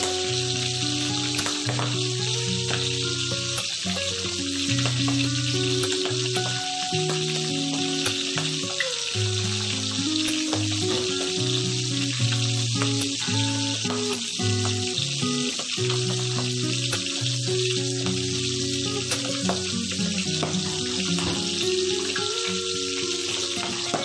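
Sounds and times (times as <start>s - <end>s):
fish frying in oil: 0.0s - 24.0s
music of slow low notes: 0.0s - 24.0s.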